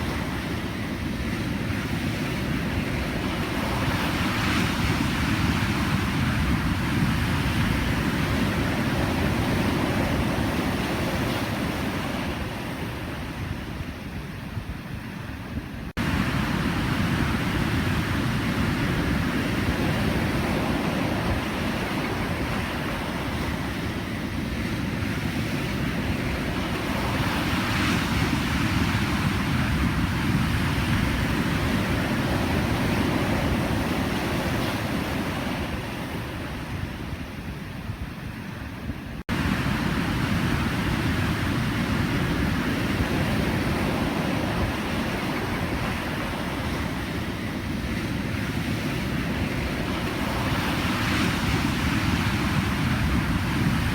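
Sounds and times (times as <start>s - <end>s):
ocean waves breaking: 0.0s - 14.3s, 15.6s - 53.9s.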